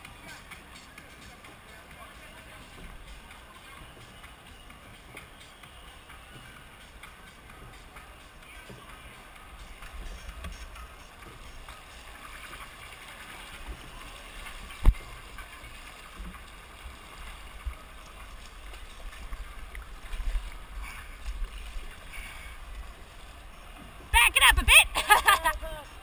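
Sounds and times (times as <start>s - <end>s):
paddles splashing in water: 0.0s - 26.0s.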